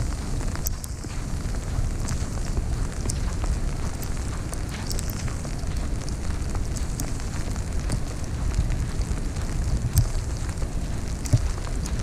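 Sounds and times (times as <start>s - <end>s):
sharp crackling ticks: 0.0s - 12.0s
wind buffeting microphone: 0.0s - 12.0s.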